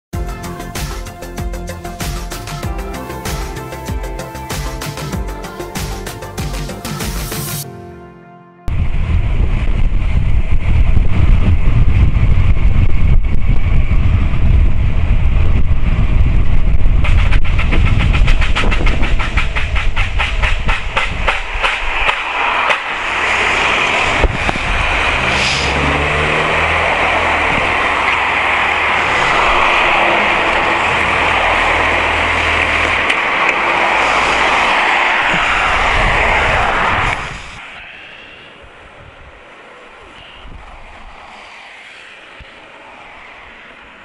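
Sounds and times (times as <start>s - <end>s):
wind rushing over microphone: 8.7s - 44.0s.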